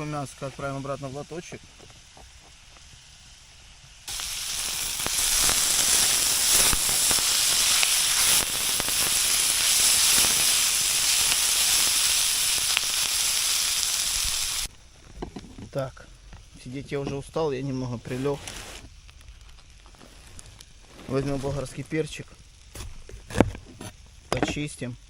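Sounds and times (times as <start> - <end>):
food sizzling in a frying pan: 0.0 - 23.1.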